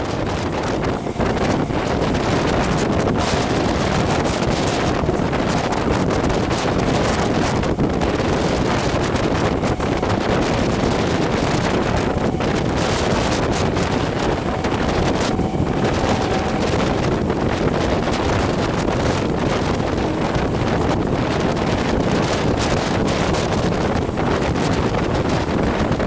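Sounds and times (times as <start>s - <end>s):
train wheels rumbling on rails: 0.0s - 26.0s
wind buffeting microphone: 0.0s - 26.0s.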